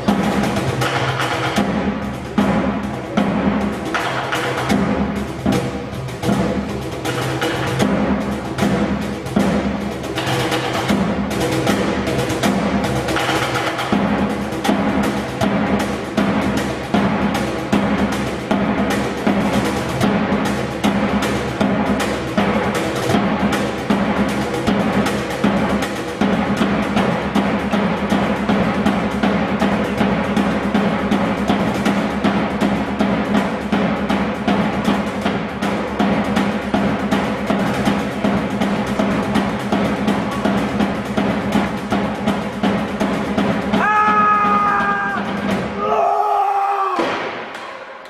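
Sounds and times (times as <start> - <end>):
deep drums rolling: 0.0 - 47.6.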